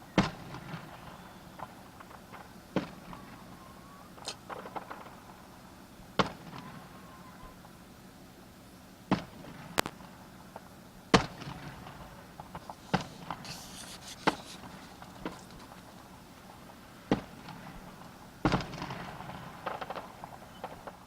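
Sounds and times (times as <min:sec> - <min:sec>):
fireworks bangs: 0:00.0 - 0:07.6, 0:09.1 - 0:21.0
fireworks crackling: 0:00.0 - 0:21.0.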